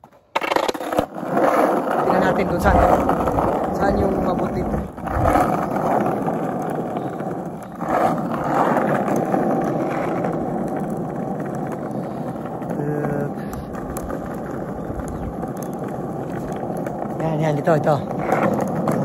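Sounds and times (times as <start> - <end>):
skateboard wheels rolling on asphalt: 0.0 - 19.0.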